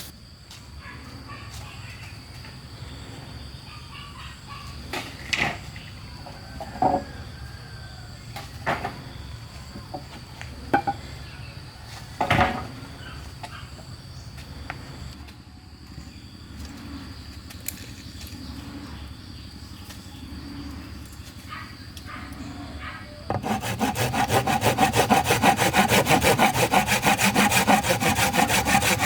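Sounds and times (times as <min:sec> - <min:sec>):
faint insect drone: 0:00.0 - 0:29.0.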